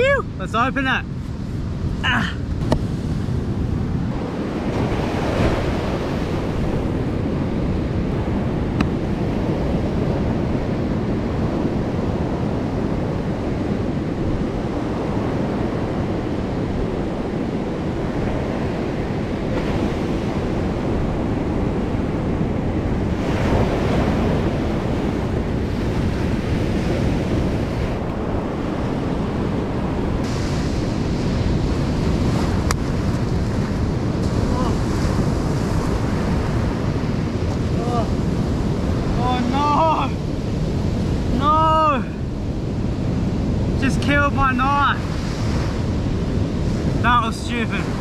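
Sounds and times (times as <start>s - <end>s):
ocean surf breaking: 0.0s - 48.0s
wind buffeting microphone: 0.0s - 48.0s.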